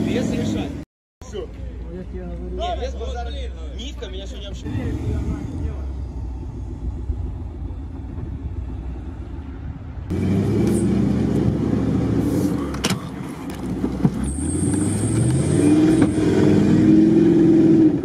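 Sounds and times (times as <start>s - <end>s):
off-road engine rumble: 0.0s - 18.0s
vehicle engine revving: 2.9s - 18.0s.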